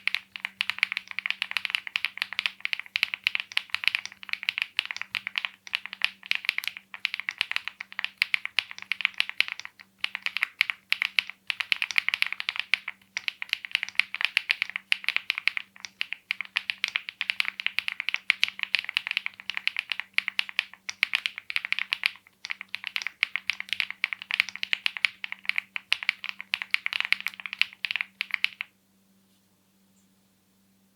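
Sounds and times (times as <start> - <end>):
mechanical keyboard typing: 0.0 - 28.7.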